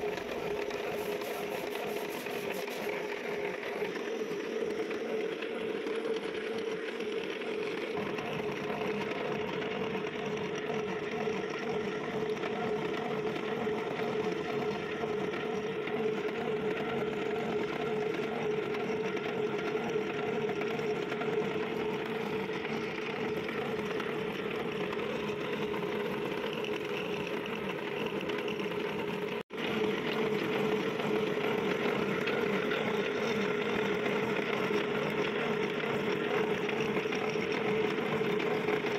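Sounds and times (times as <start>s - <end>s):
lathe machine whir: 0.0s - 38.9s.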